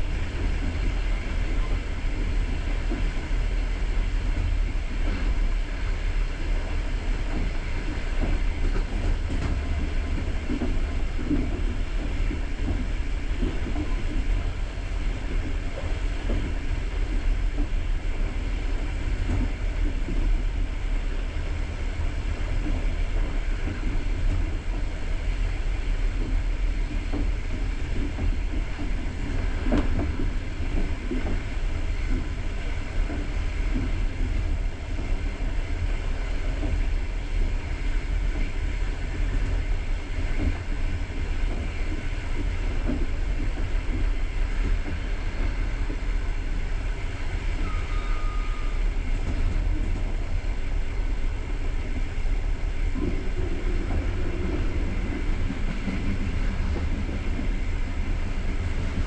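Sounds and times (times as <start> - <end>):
train carriage rumble: 0.0 - 59.0.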